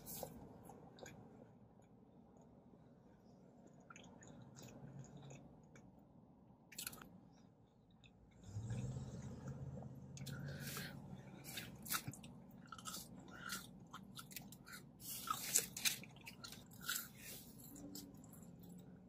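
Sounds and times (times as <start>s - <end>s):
chewing fries: 0.0s - 2.6s, 3.4s - 19.0s.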